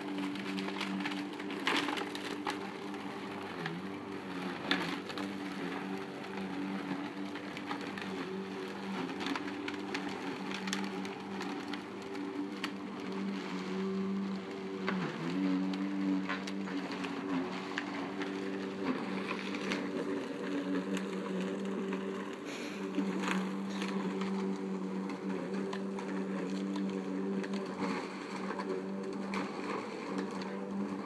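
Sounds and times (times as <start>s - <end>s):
lawn mower running: 0.0s - 31.0s.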